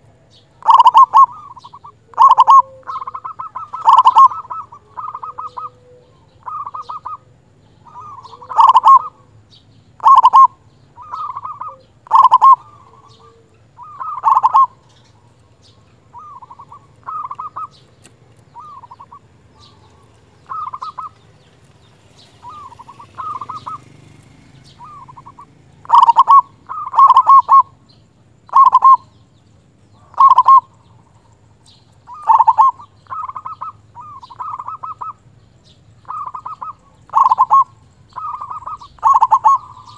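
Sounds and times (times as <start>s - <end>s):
dove cooing: 0.0s - 9.4s, 10.0s - 29.2s, 29.9s - 35.4s, 36.0s - 39.9s.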